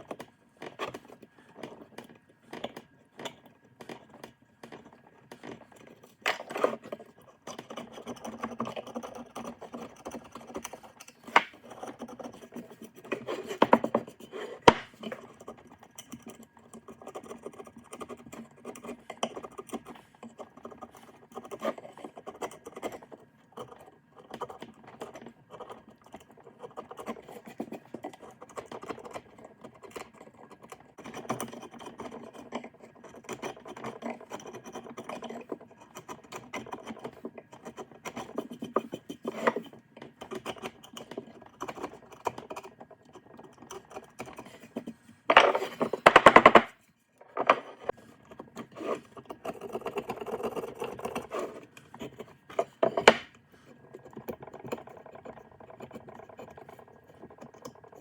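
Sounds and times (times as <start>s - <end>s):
scraping and rubbing with clicks: 0.0s - 58.0s.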